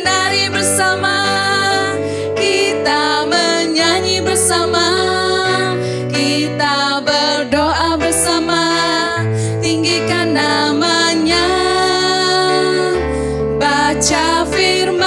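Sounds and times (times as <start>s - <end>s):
instrumental backing track: 0.0s - 15.0s
women singing into microphones: 0.0s - 15.0s.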